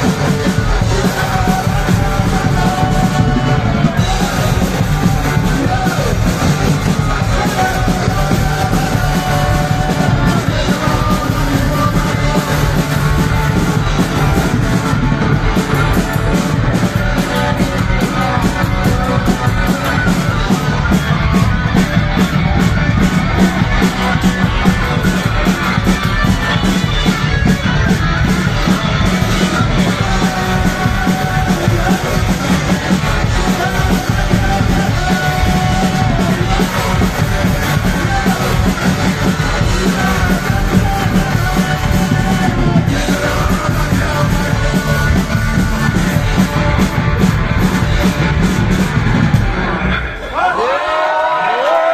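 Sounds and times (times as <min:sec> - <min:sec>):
punk rock band playing: 0:00.0 - 0:51.9
shouted and sung vocals: 0:00.0 - 0:51.9.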